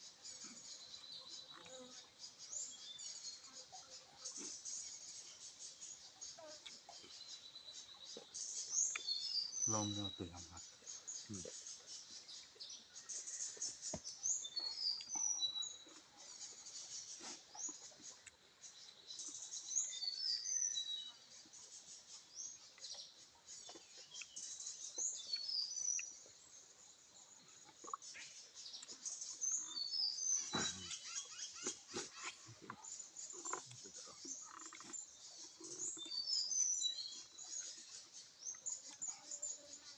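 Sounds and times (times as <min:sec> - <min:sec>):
birds chirping: 0:00.0 - 0:26.6, 0:27.2 - 0:39.9.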